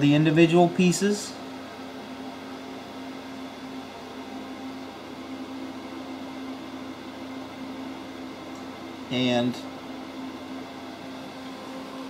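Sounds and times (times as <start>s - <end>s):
low appliance hum with hiss: 0.0s - 12.0s.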